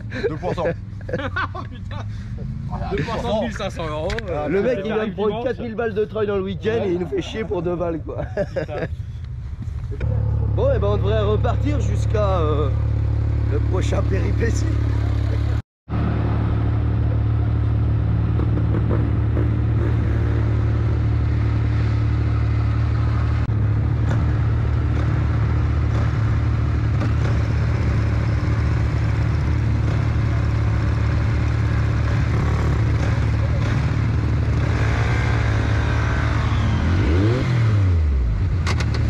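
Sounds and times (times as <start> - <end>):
buggy engine running: 0.0 - 39.0.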